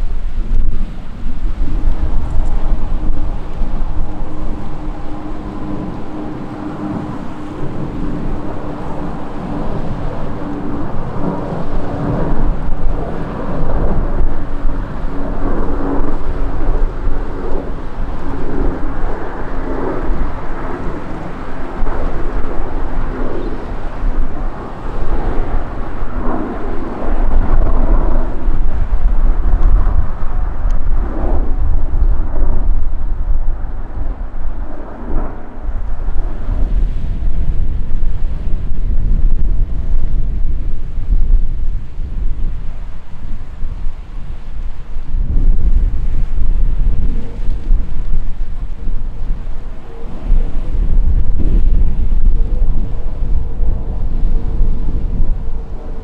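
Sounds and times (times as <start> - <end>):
jet engines rumbling: 0.0 - 56.0
wind buffeting microphone: 0.0 - 56.0.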